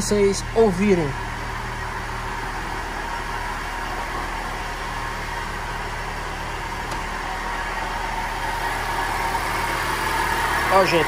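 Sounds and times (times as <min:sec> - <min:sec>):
car engine idling with rumble: 0:00.0 - 0:11.0.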